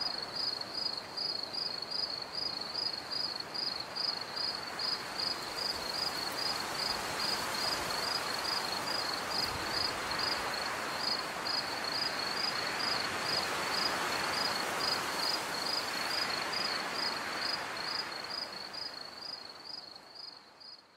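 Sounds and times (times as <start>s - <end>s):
crickets chirping: 0.0s - 20.9s
night ambience hiss: 0.0s - 20.9s.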